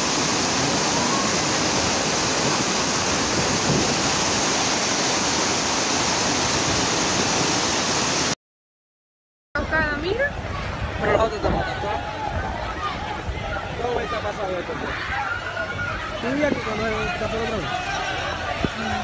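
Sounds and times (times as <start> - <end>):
rushing floodwater torrent: 0.0 - 8.4, 9.6 - 19.0.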